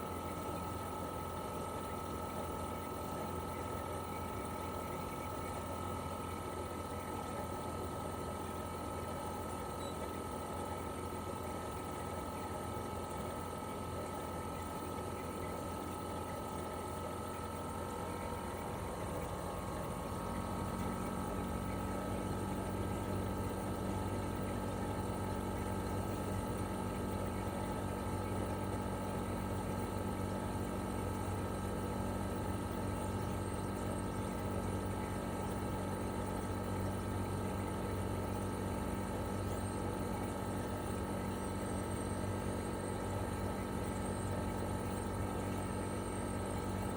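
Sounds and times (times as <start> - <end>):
air conditioner unit humming: 0.0 - 46.9.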